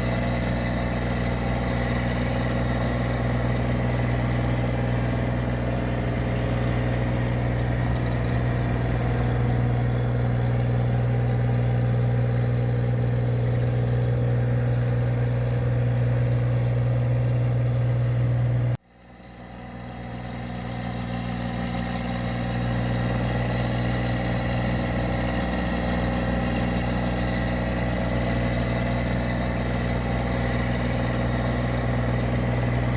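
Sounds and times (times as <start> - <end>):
machine engine humming: 0.0 - 18.8, 25.0 - 32.9.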